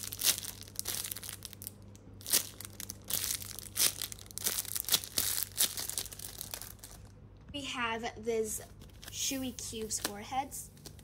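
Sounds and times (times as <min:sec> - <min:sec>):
plastic and paper crinkling: 0:00.0 - 0:07.1, 0:08.6 - 0:11.0.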